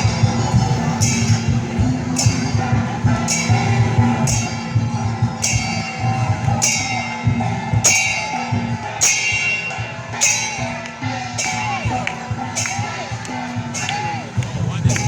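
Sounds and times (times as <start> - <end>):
cymbal crash: 0.0 - 15.0
loud music with steady drumbeat: 0.0 - 15.0.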